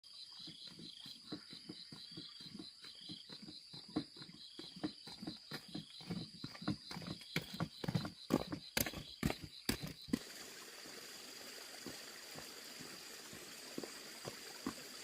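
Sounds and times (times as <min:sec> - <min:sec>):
insects chirping in a pulsing trill: 0:00.1 - 0:15.0.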